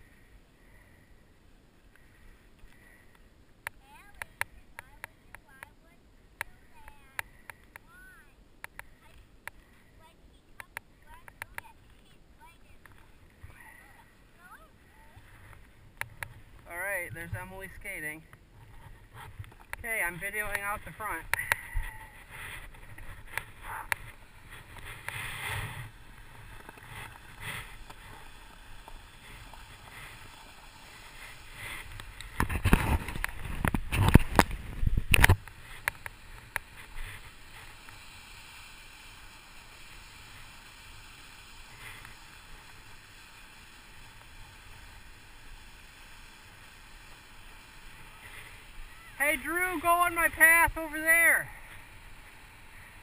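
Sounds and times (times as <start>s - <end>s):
bike tires rolling on snow: 0.0s - 53.0s.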